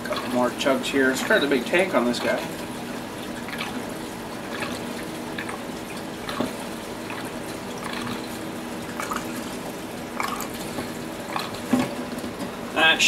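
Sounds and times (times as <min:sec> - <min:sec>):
gasoline pouring and gurgling: 0:00.0 - 0:12.4.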